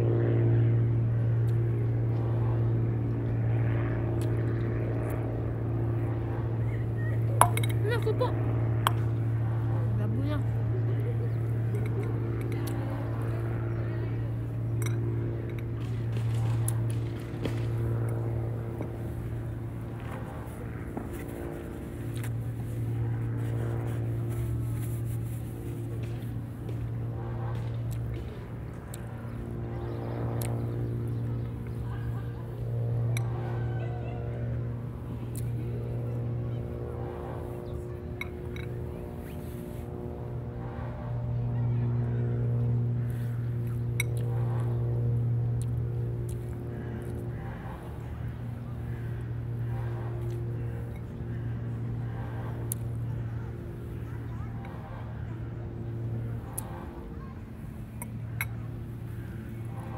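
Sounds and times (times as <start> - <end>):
propeller airplane engine droning: 0.0 - 59.9.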